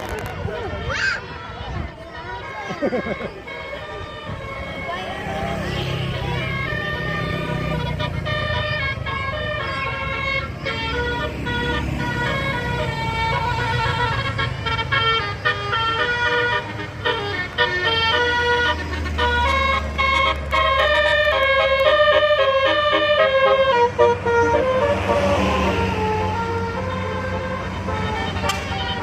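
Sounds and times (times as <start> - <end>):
multi-tone bus horn melody: 0.1 - 29.0
engine running: 2.9 - 29.0.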